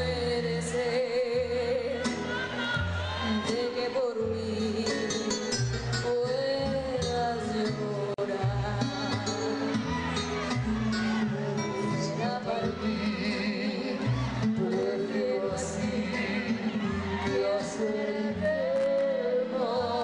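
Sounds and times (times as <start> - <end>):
band with bass line: 0.0 - 20.0
man and woman singing duet: 0.0 - 20.0.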